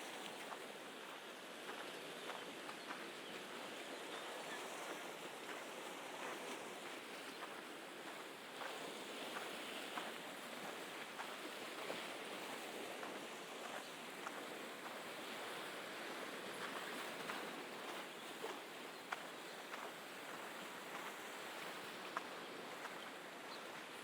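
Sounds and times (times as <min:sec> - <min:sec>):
faint scattered ticks: 0:00.0 - 0:24.0
sea surf: 0:00.0 - 0:24.0.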